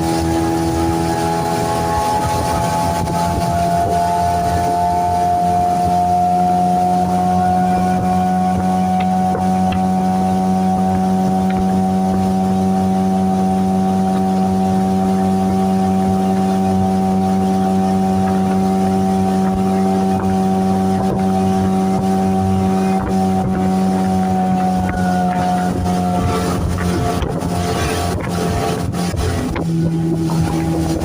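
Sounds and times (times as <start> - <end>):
electric trolling motor humming: 0.0 - 31.0.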